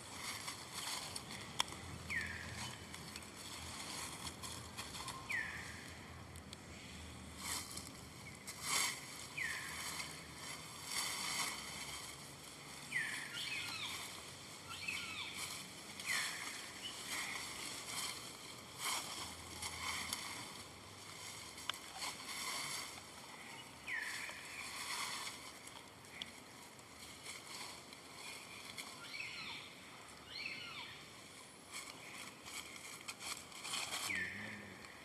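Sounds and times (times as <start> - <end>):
soft rustling: 0.0 - 30.3, 31.0 - 35.0.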